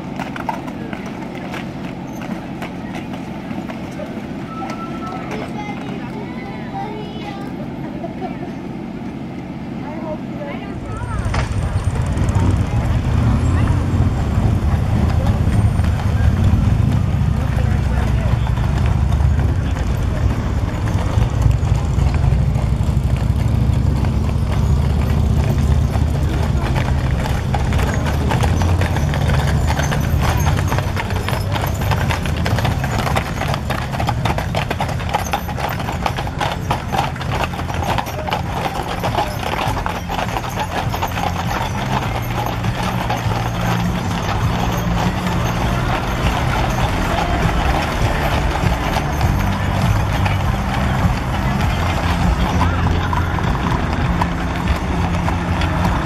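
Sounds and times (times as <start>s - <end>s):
hooves clip-clopping on asphalt: 0.0s - 56.0s.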